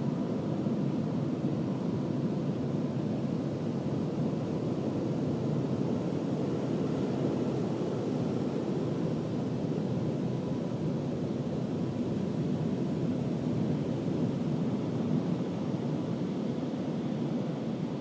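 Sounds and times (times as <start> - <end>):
faint constant whine: 0.0 - 18.0.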